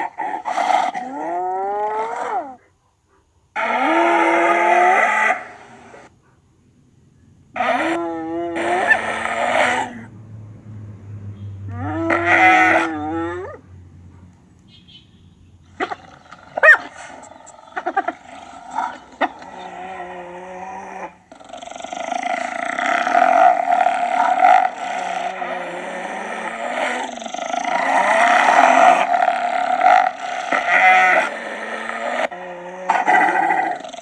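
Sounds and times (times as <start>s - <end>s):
hyenas calling: 0.0s - 2.6s, 3.6s - 6.1s, 7.5s - 10.2s, 11.5s - 13.7s, 15.7s - 34.0s.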